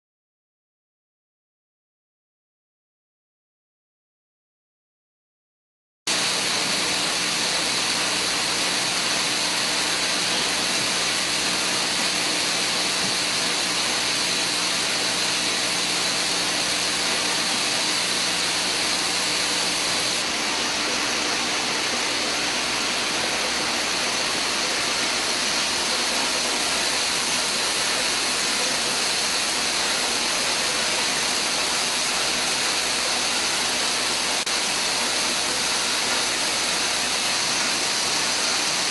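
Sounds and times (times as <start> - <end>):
faint machine hums: 6.1 - 38.9.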